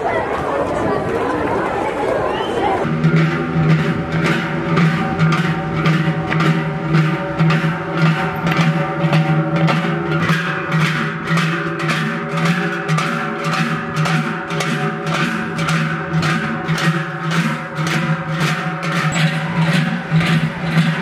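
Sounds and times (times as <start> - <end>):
large cowbells clanging: 2.8 - 21.0.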